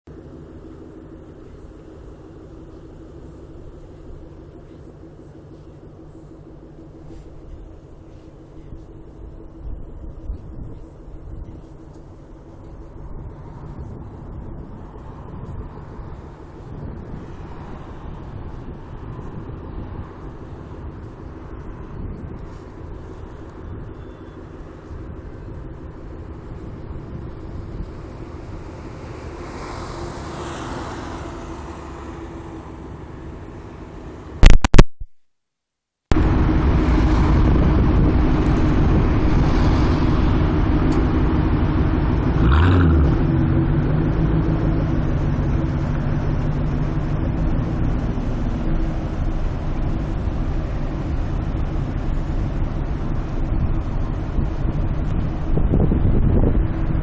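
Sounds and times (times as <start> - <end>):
car engine idling: 0.1 - 34.7, 36.1 - 57.0.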